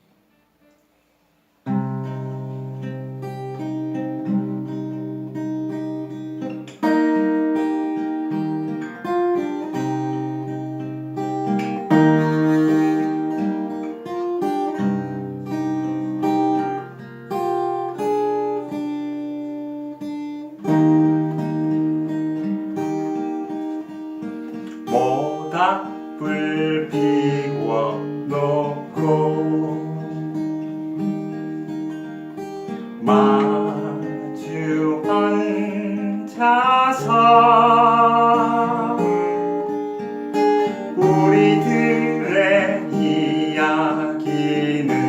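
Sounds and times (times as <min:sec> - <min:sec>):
acoustic guitar strumming chords: 0:00.0 - 0:45.0.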